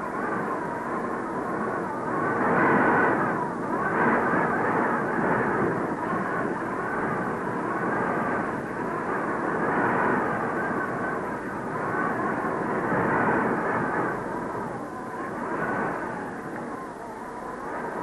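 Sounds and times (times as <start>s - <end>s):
strong wind gusting: 0.0s - 18.0s.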